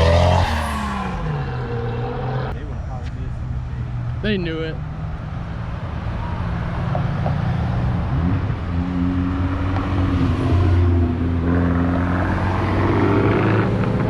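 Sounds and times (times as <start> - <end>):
car engine revving and pulling away: 0.0 - 2.6, 3.3 - 14.0.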